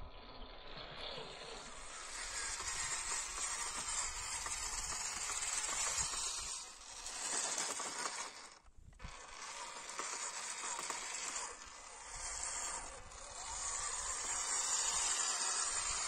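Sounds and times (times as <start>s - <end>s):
rc car motor whirring: 0.0s - 16.0s.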